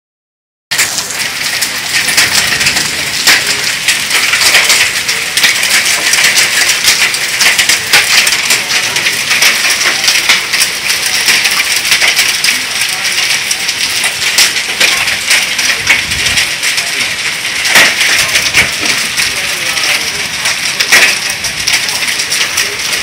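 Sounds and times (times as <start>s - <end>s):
hailstones ticking: 0.7s - 23.0s
heavy rain: 0.7s - 23.0s.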